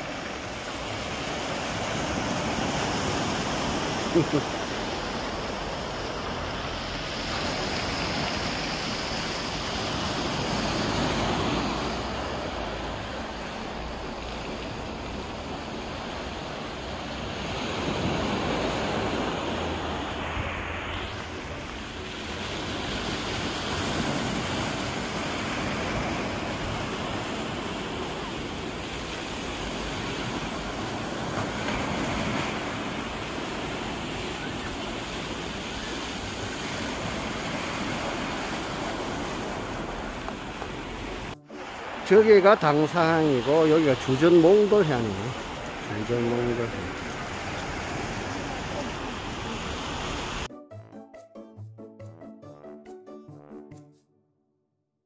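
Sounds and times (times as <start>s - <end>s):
surf washing up pebble beach: 0.0s - 50.5s.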